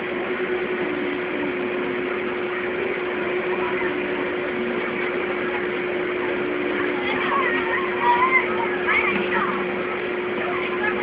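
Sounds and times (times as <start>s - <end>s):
electric air blower humming: 0.0s - 11.0s.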